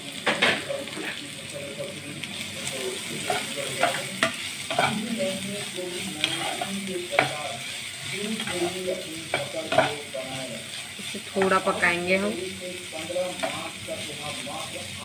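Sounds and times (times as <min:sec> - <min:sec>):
onions sizzling in oil: 0:00.0 - 0:15.0
spatula scraping a pan: 0:02.3 - 0:15.0.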